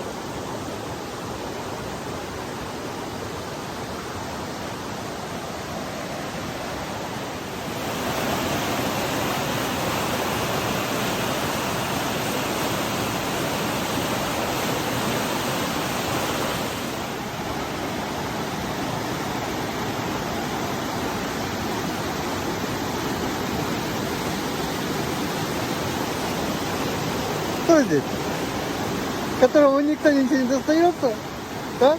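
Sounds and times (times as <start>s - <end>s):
rushing river water: 0.0s - 31.9s
small waterfall: 0.0s - 31.9s.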